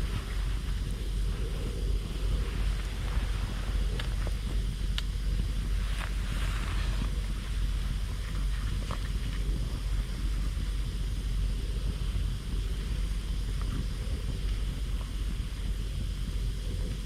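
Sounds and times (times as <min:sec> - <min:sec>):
campfire burning rumble: 0:00.0 - 0:17.0
fire crackling: 0:00.0 - 0:17.0.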